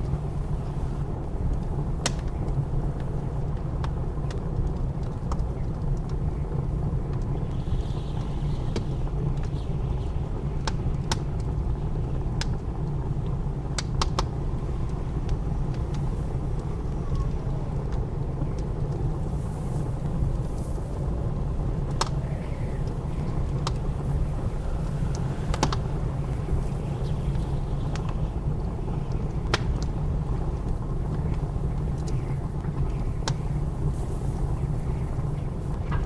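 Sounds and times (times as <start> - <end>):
blizzard wind rumble: 0.0 - 36.0
wood fire crackling: 0.0 - 36.0.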